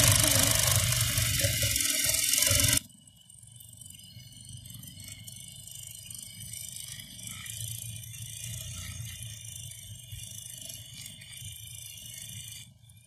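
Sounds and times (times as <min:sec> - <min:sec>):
sewing machine whirring: 0:00.0 - 0:13.0.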